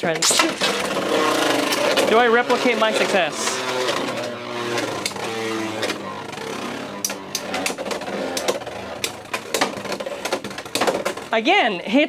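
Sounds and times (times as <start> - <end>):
spinning tops whirring: 0.0 - 11.4.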